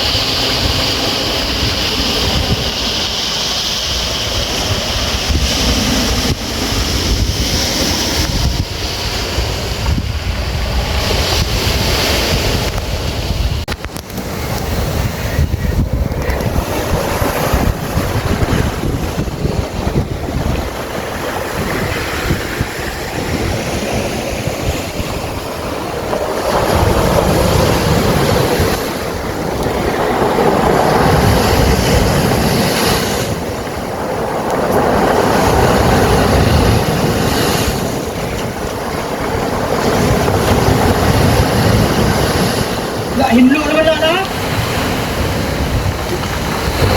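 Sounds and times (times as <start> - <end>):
stones rumbling in surf: 0.0 - 46.9
waves washing over stony beach: 0.0 - 46.9
wind buffeting microphone: 0.0 - 46.9.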